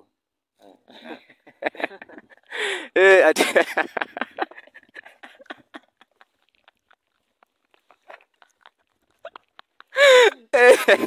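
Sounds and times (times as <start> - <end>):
young men laughing breathily: 0.9 - 11.0.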